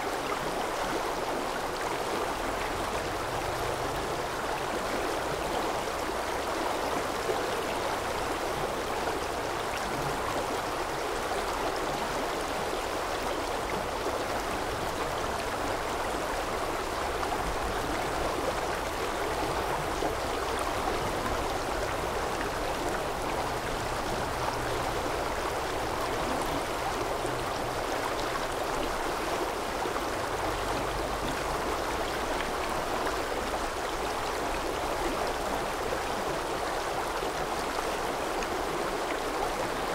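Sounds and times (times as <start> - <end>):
rushing stream: 0.0 - 39.9.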